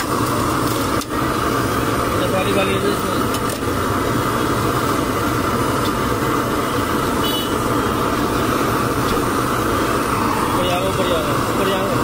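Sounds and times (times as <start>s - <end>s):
food stall rumbling and hissing: 0.0s - 12.0s.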